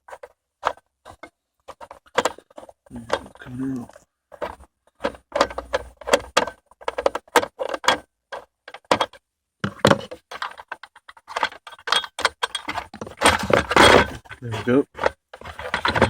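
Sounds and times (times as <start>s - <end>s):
hard plastic clicking and rattling: 0.0s - 3.5s, 4.3s - 16.0s.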